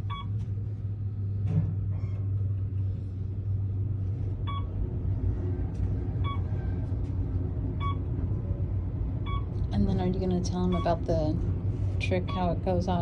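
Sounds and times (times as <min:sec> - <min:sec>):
elevator rumble and hum: 0:00.0 - 0:13.0.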